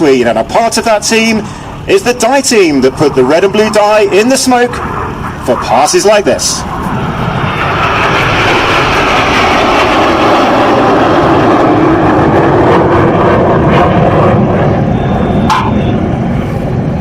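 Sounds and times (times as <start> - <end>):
jets passing low: 0.0 - 17.0.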